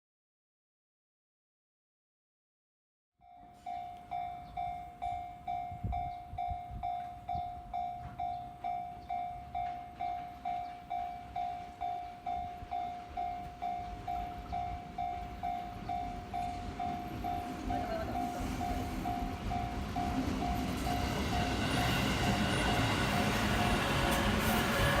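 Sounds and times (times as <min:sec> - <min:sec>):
level-crossing warning bell: 0:03.2 - 0:25.0.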